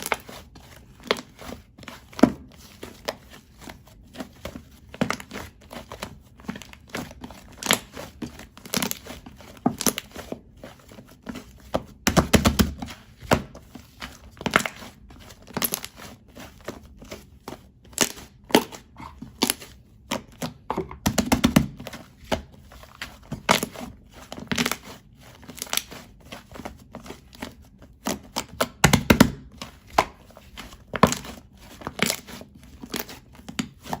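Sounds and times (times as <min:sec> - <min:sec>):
slime squelching: 0:00.0 - 0:34.0.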